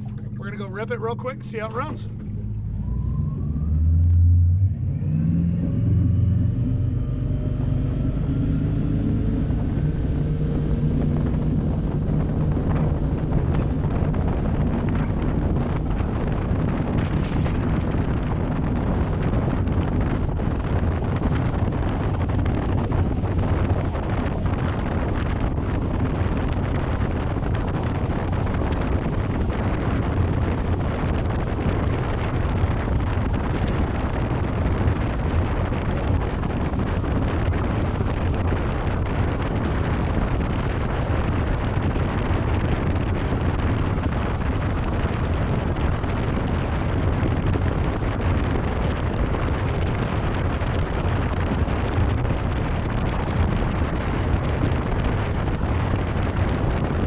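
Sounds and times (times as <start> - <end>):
boat engine: 0.0 - 57.0
wind buffeting microphone: 0.0 - 57.0
hull slapping water: 5.9 - 57.0.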